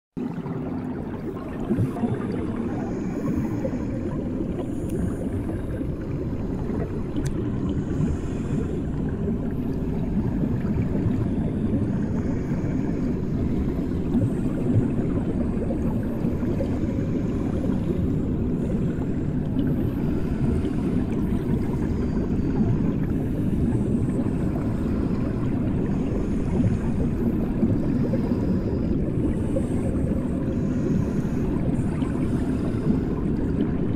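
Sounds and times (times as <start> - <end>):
underwater bathwater rumble: 0.2 - 33.9.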